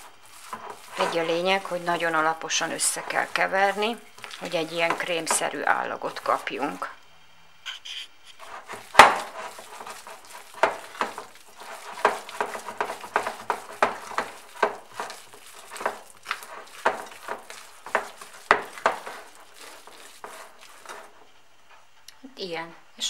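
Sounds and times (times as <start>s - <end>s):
wooden spoon scraping a bowl: 0.0s - 6.9s, 8.3s - 21.2s.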